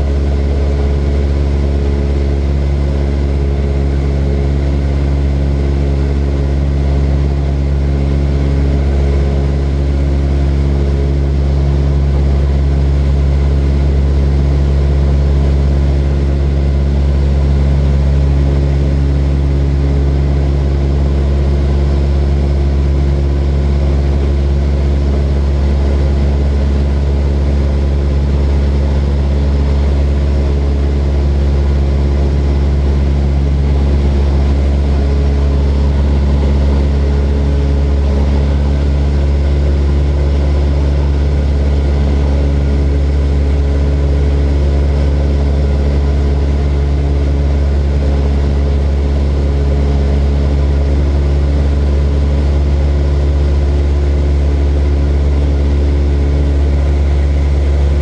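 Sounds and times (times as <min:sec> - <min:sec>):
propeller airplane engine droning: 0:00.0 - 0:58.0.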